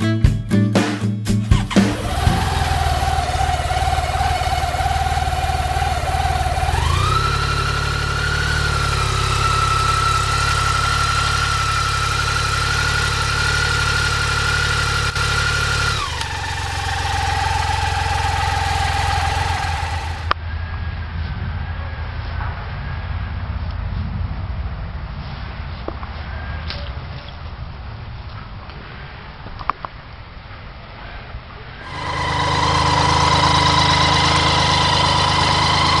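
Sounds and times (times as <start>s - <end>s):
motorcycle engine idling and revving: 1.3s - 28.8s, 31.8s - 36.0s.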